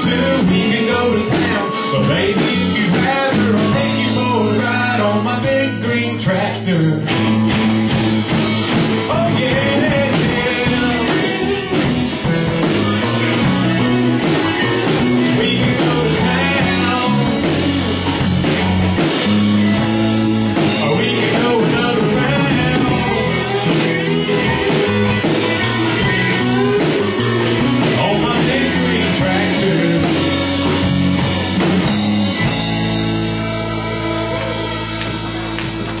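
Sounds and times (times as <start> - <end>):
country band playing: 0.0 - 36.0.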